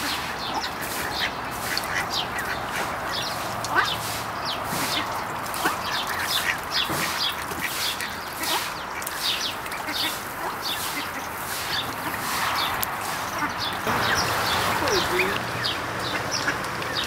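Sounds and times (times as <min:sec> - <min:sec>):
ducks peeping: 0:00.0 - 0:17.0.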